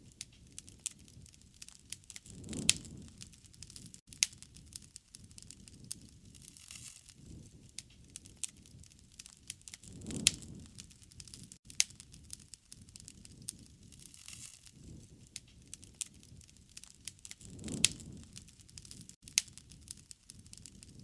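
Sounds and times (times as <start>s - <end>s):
low rush of flames: 0.0s - 21.0s
wood fire crackling: 0.0s - 21.0s.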